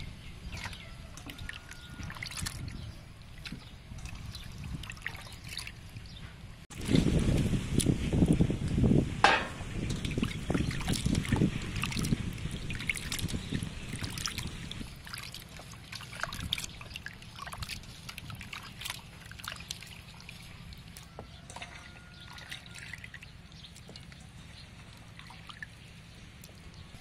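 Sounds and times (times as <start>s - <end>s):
hands sloshing meat in water: 0.4s - 6.2s, 9.8s - 27.0s.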